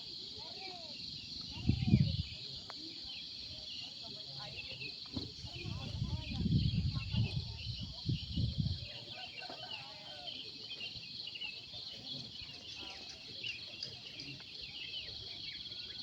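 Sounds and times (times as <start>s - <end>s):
insect drone: 0.0s - 16.0s.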